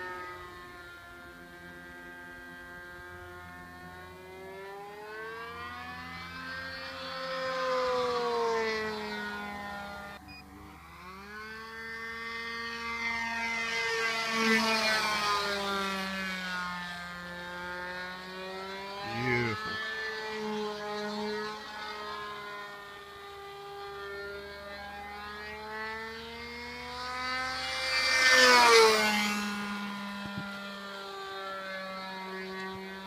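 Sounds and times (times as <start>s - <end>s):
model airplane motor droning: 0.0s - 33.0s.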